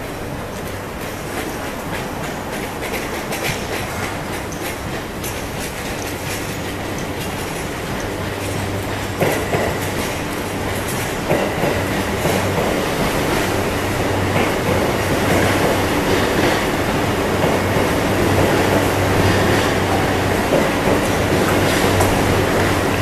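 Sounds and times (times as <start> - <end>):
train wheels rumbling on rails: 0.0 - 23.0
wheels clacking over rail joints: 0.2 - 23.0.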